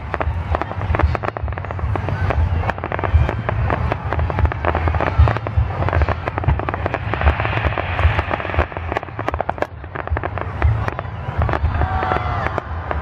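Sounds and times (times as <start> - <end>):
firework crackling: 0.0 - 13.0
fireworks popping and banging: 0.0 - 13.0.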